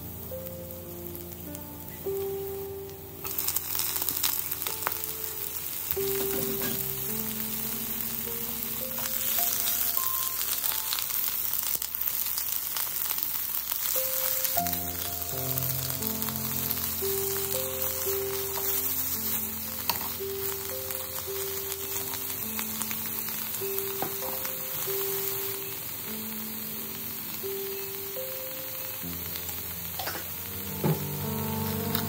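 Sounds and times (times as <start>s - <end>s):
greens sizzling in hot oil: 0.0s - 32.0s
soft background music: 0.0s - 32.0s.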